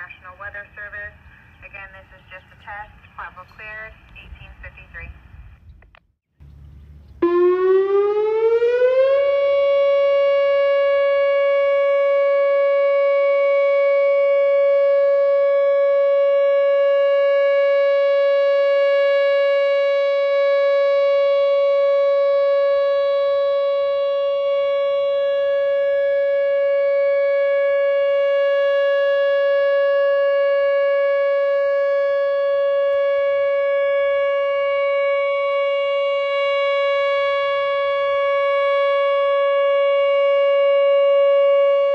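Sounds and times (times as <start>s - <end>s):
warning siren steady tone: 6.5s - 41.9s.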